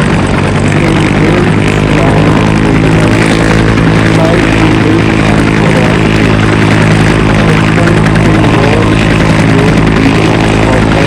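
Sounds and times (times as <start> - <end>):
helicopter rotor and engine drone: 0.0 - 11.0.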